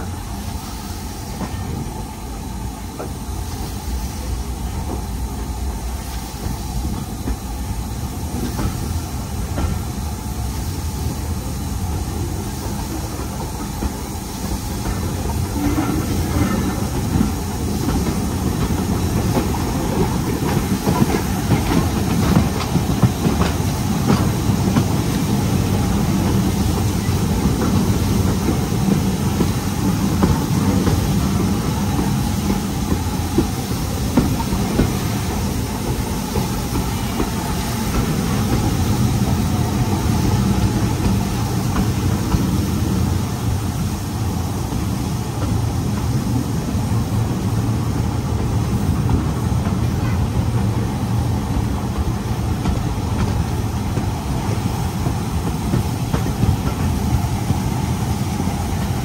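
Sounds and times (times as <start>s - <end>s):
steam train rumbling: 0.0s - 59.0s.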